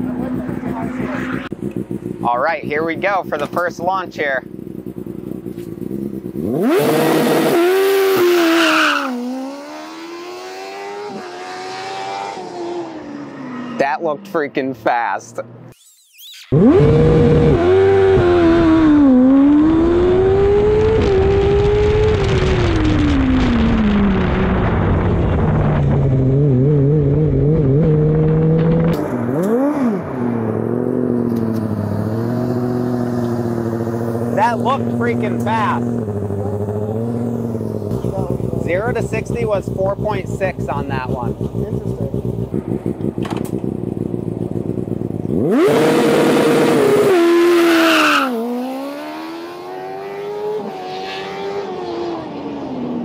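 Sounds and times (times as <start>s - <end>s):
race car engine revving: 0.0s - 3.5s, 5.4s - 14.8s, 16.5s - 53.0s.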